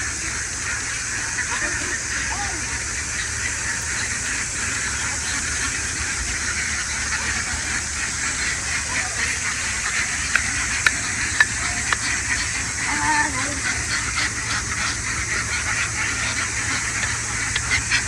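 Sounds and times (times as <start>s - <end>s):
continuous hiss: 0.0s - 18.0s.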